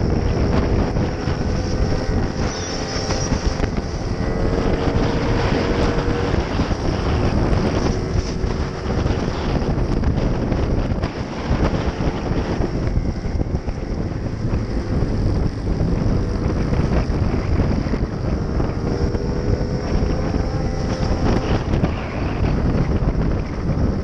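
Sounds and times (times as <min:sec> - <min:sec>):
scooter engine and tyre noise: 0:00.0 - 0:24.0
wind buffeting microphone: 0:00.0 - 0:24.0.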